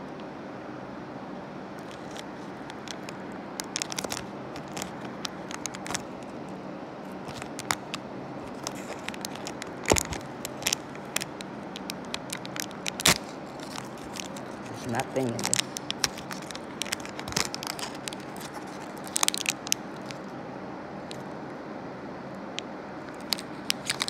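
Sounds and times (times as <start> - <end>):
foil sachet crinkling: 1.8 - 20.3, 23.1 - 24.0.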